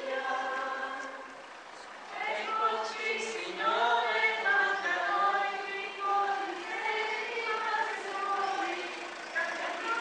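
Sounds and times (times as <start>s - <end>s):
group singing a hymn: 0.0s - 1.4s, 2.0s - 10.0s.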